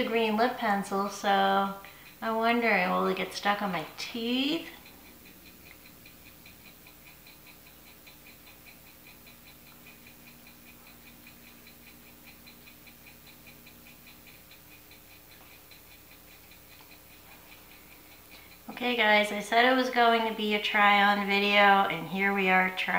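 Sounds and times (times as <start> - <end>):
low steady hum: 0.0 - 22.9
rapid ticking: 0.0 - 22.9.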